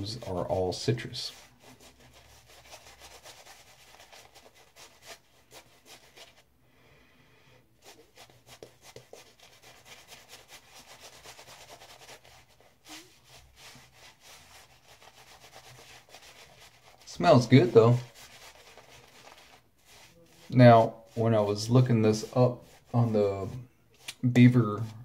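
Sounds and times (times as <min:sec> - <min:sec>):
shaving brush rubbing on face: 0:00.0 - 0:06.5, 0:07.8 - 0:24.9.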